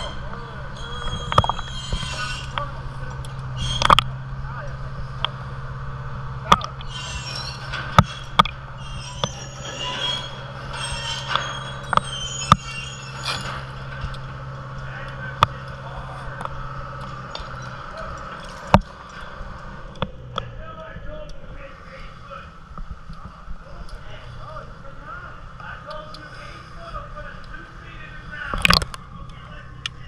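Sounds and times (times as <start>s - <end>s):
crane engine humming: 0.0s - 30.0s.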